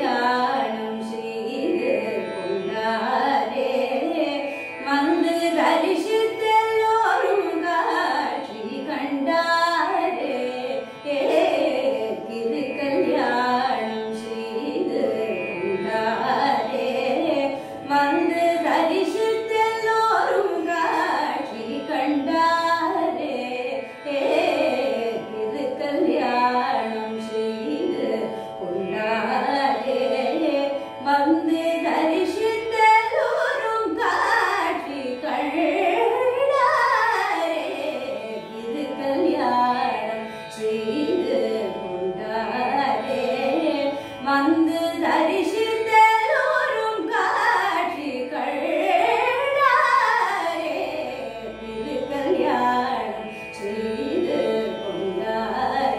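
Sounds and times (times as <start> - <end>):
woman singing: 0.0 - 55.9.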